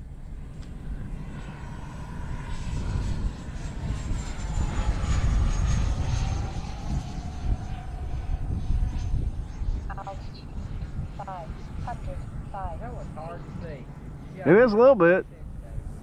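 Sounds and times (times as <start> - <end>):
ducted fan jet whine: 0.0 - 16.0.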